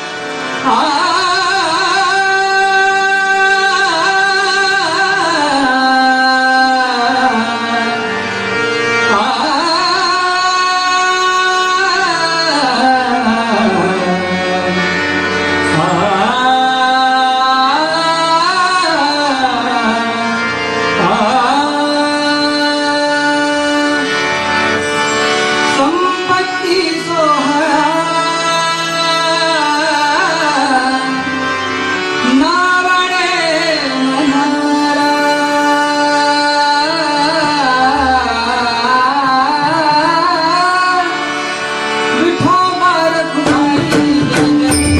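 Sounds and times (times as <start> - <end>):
person singing devotional song: 0.0 - 44.9
tabla: 0.0 - 44.9.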